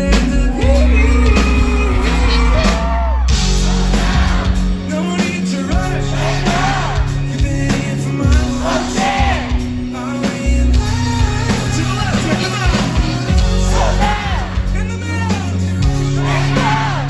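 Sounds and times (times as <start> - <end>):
lead vocal singing: 0.0 - 17.0
pop-rock band playing: 0.0 - 17.0.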